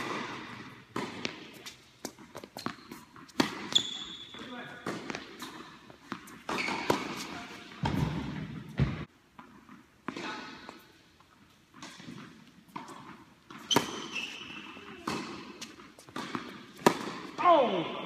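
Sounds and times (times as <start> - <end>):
ball bouncing on hard court: 0.0 - 10.3, 12.8 - 17.3
rackets striking tennis ball: 0.0 - 10.9, 11.7 - 17.8.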